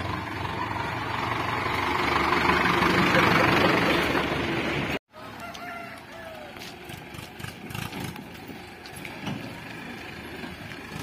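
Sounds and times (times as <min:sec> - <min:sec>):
distant diesel tractor engine: 0:00.0 - 0:05.0, 0:06.5 - 0:11.0.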